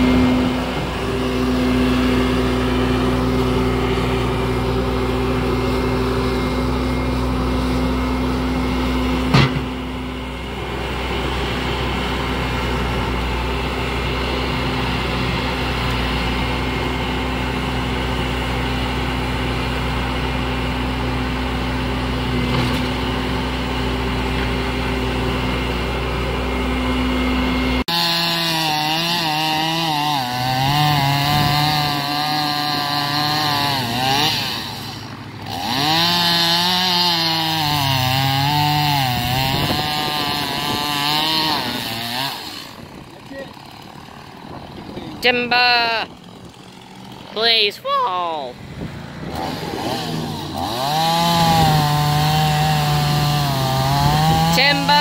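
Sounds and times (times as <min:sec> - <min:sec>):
chainsaw revving and cutting: 0:00.0 - 0:47.7, 0:48.6 - 0:55.0
diesel engine running: 0:00.0 - 0:55.0.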